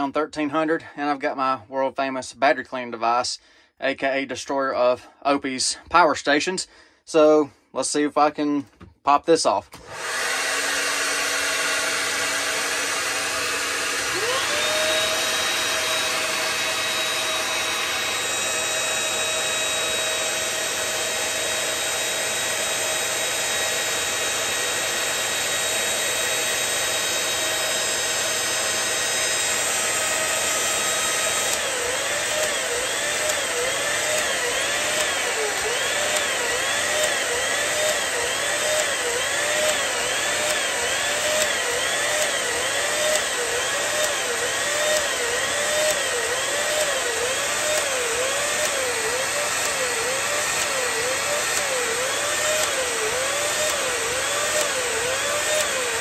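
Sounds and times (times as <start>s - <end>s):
hair dryer running: 9.7s - 56.0s
vacuum cleaner motor: 9.7s - 56.0s.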